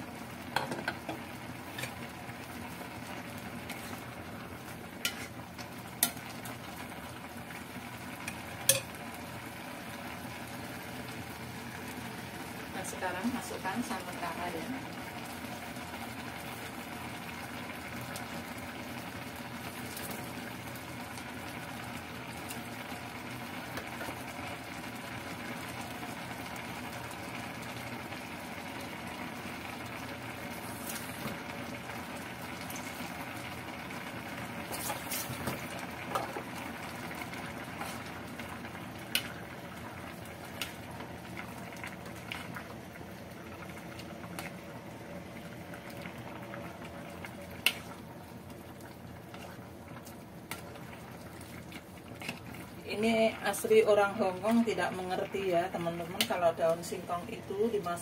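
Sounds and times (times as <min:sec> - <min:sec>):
stew simmering and bubbling: 0:00.0 - 0:58.0.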